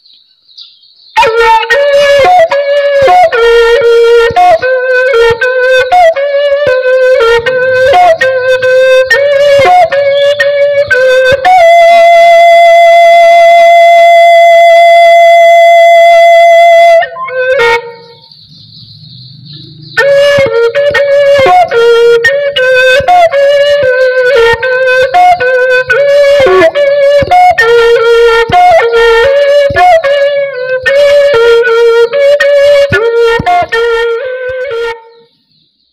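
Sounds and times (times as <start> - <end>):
wind pipe melody: 1.2 - 35.4.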